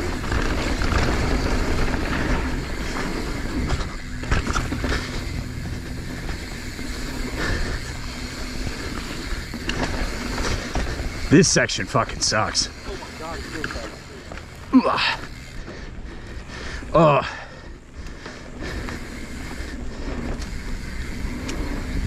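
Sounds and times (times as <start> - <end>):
bike knocking and rattling: 0.0 - 22.0
tyres rumbling on dirt: 0.0 - 22.0.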